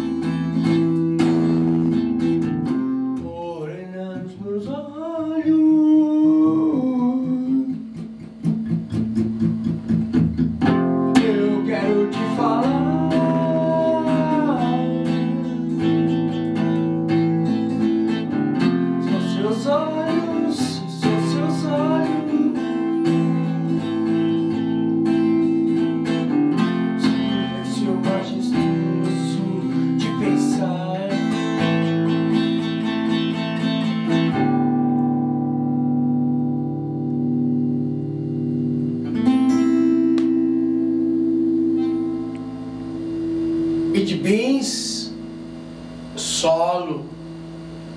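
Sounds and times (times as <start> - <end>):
acoustic guitar strumming: 0.0 - 47.9.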